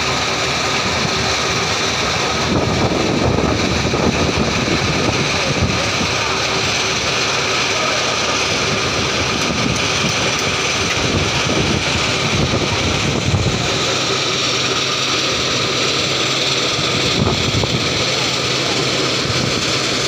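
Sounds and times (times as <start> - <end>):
faint machine whine: 0.0 - 20.0
machinery rumble: 0.0 - 20.0.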